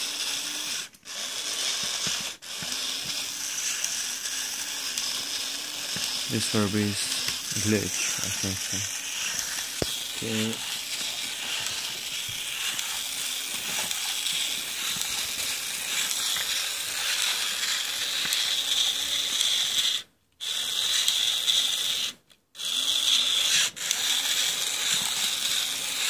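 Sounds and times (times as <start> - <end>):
toy motor whirring and clicking: 0.0 - 26.0.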